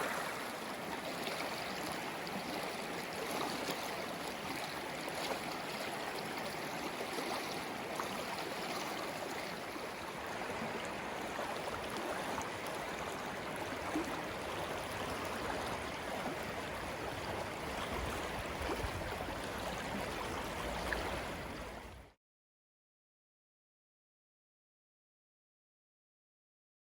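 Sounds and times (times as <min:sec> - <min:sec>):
flowing water rushing: 0:00.0 - 0:22.1.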